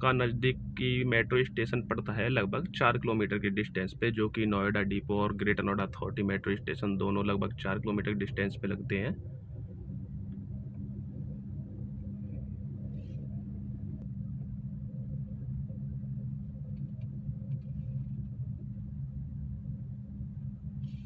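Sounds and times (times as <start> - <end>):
car engine drone: 0.0 - 21.0.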